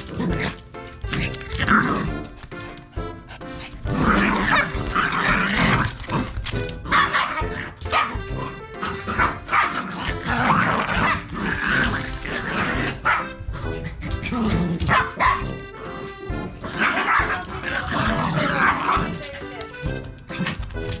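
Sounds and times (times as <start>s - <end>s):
small dogs barking and growling: 0.0s - 19.5s
background music: 0.0s - 21.0s.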